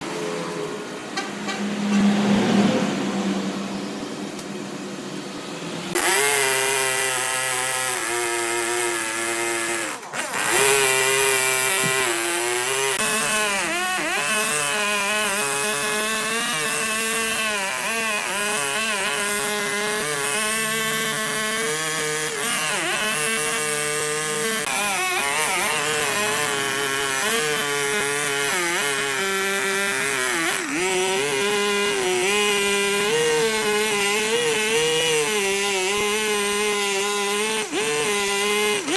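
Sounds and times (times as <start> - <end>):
power tool whining on wood: 0.0 - 2.7, 3.7 - 38.9.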